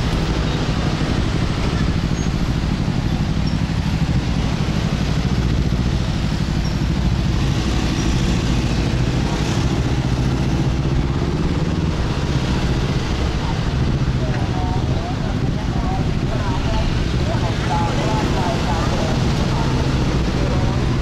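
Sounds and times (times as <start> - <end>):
motorbike engine running: 0.0 - 21.0
road and wind noise: 0.0 - 21.0.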